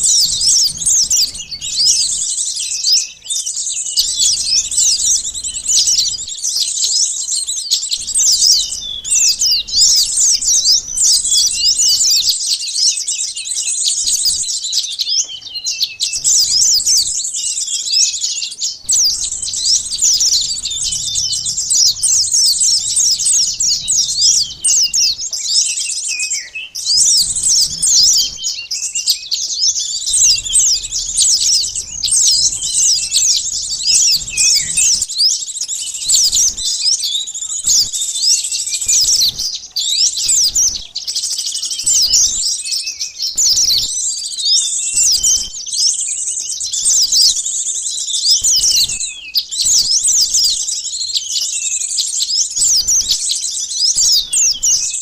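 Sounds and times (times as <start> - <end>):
sunbirds chirping and twittering: 0.0 - 55.0.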